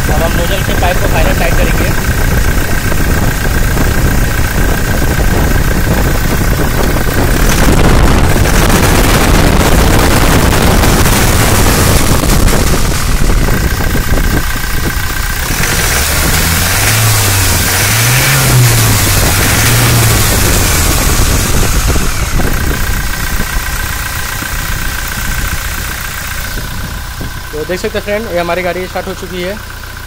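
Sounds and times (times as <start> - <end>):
starter cranking diesel engine: 0.0 - 30.0.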